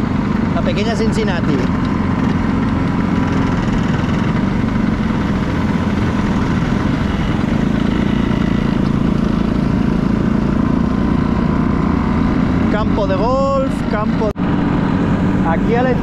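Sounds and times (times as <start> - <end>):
scooter engine running: 0.0 - 16.0.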